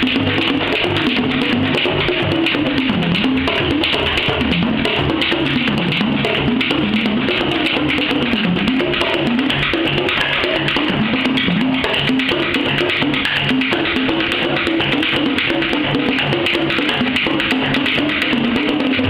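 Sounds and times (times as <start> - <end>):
frame drums played fast: 0.0 - 19.0.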